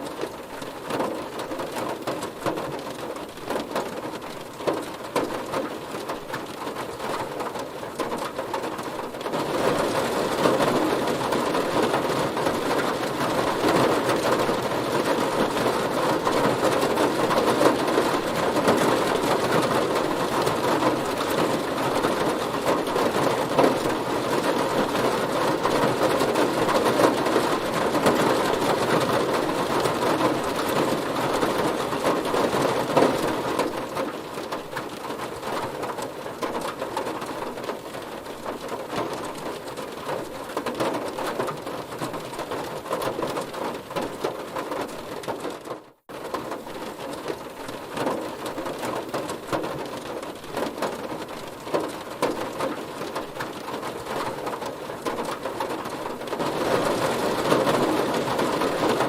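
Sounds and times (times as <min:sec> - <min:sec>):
heavy rain hitting a car: 0:00.0 - 0:59.0.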